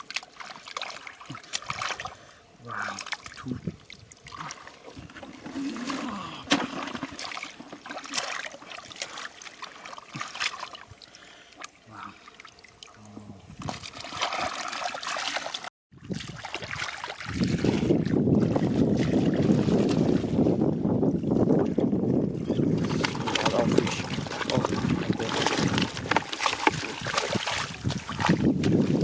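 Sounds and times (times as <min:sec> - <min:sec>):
shallow water splashing: 0:00.0 - 0:20.7, 0:21.3 - 0:29.0.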